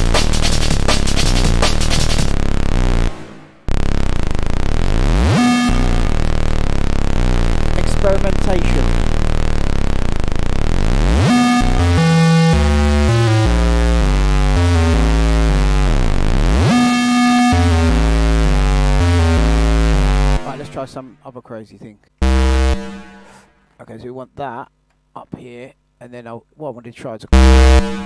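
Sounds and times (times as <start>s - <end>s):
buzzy synth bass notes: 0.0s - 21.2s, 22.2s - 23.6s, 27.3s - 28.0s.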